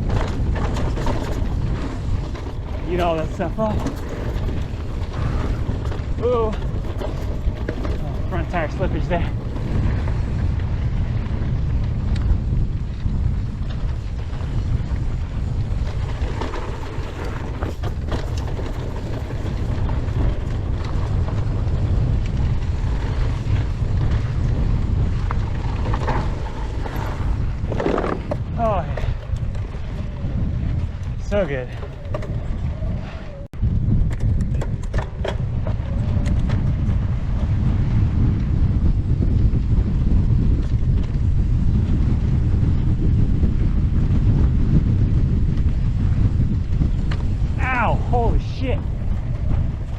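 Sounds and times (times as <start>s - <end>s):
bike tyres clicking and rattling: 0.0s - 49.9s
deep rumble of ride noise: 0.0s - 49.9s
wind buffeting microphone: 0.0s - 49.9s.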